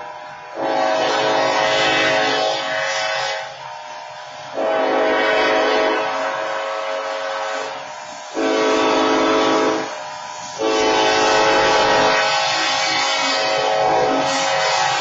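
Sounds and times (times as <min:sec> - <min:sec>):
locomotive air horn blasts: 0:00.0 - 0:03.7, 0:04.5 - 0:15.0.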